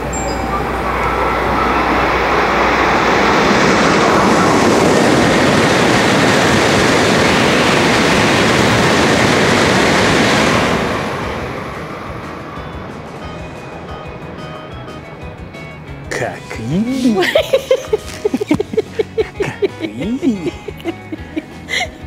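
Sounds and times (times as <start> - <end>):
high-speed train rushing past: 0.0 - 22.0.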